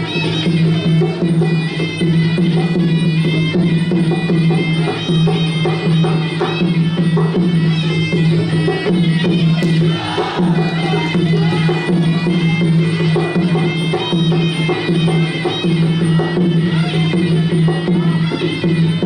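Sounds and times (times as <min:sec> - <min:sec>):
hand drums beating: 0:00.0 - 0:19.0.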